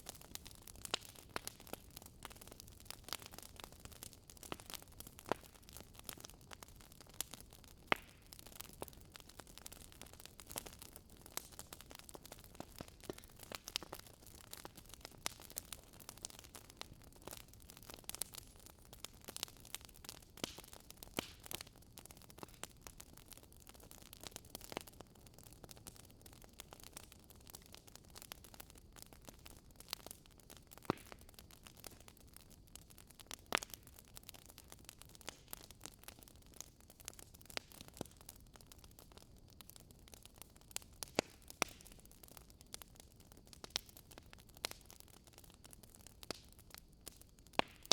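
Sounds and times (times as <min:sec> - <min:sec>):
wood fire pops: 0:00.0 - 0:38.3, 0:39.0 - 0:47.9
fire crackling: 0:00.0 - 0:47.9.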